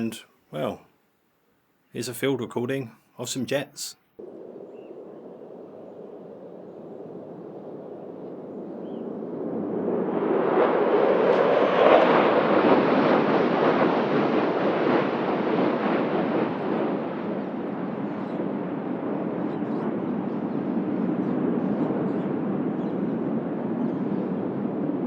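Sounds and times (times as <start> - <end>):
fighter jet roar: 4.2 - 25.0.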